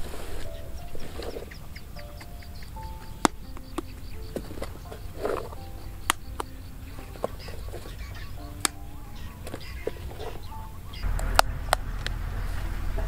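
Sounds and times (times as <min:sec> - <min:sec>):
lotus seed pods snapping: 0:00.0 - 0:12.2
honking fowl calls: 0:00.1 - 0:11.8.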